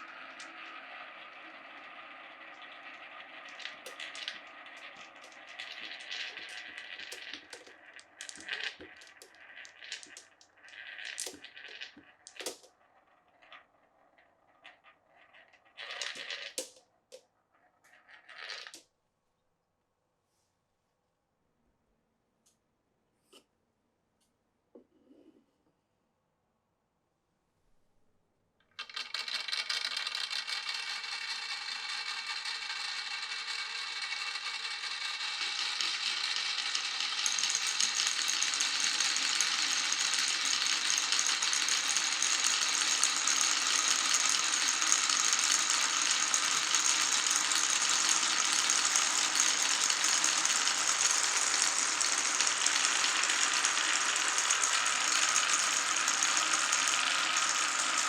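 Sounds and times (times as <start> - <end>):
marbles rattling down wooden run: 0.0 - 16.9, 17.6 - 18.8, 28.7 - 58.0.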